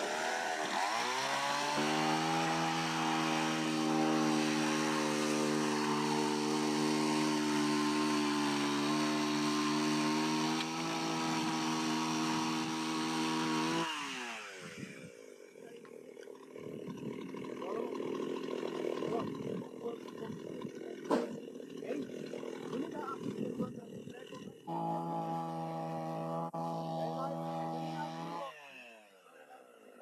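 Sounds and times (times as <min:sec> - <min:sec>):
chainsaw motor running: 0:00.0 - 0:30.0.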